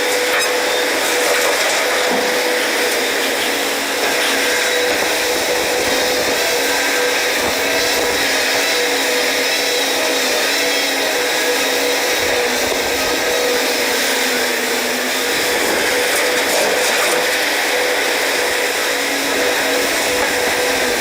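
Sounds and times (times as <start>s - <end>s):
machine running with steady whine: 0.0s - 21.0s.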